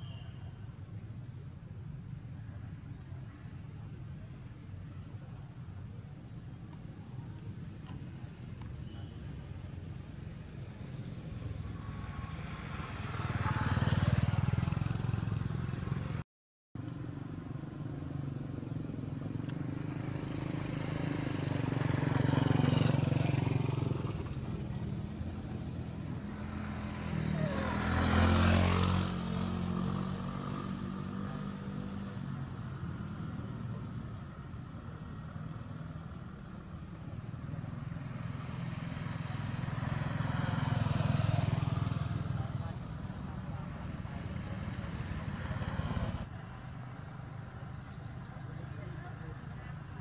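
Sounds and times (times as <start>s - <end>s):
motor vehicles passing: 0.0s - 16.2s, 16.8s - 50.0s.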